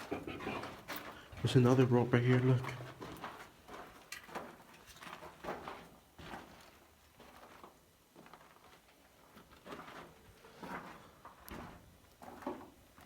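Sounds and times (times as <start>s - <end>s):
footsteps on rocky floor: 0.0s - 13.0s.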